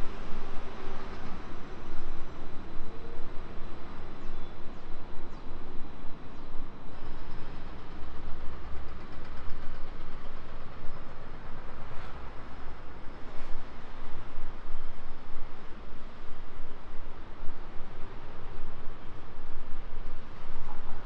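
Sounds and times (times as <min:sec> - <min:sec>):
street noise: 0:00.0 - 0:21.0
tram rumbling past: 0:00.0 - 0:21.0.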